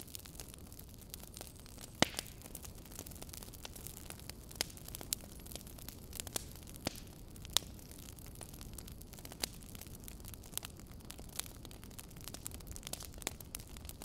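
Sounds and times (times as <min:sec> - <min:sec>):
sharp crackles and pops: 0:00.0 - 0:14.0.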